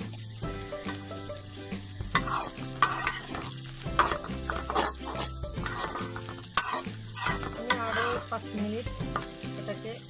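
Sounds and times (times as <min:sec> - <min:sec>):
hot oil sizzling: 0:00.0 - 0:10.0
spatula scraping in a pan: 0:00.8 - 0:09.7.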